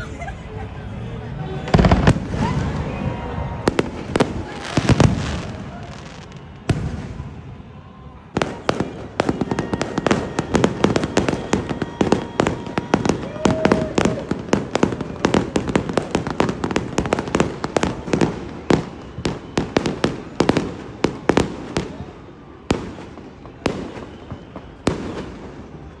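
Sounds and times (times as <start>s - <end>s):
fireworks bangs and crackles: 0.1s - 26.0s.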